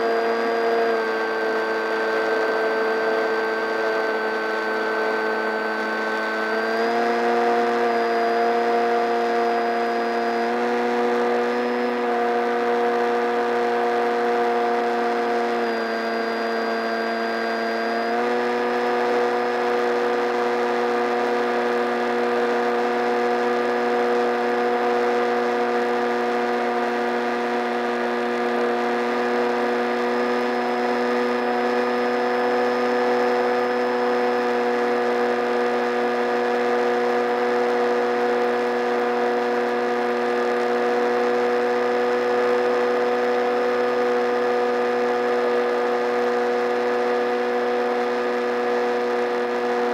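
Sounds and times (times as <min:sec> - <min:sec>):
electric motor and propeller whine: 0:00.0 - 0:49.9.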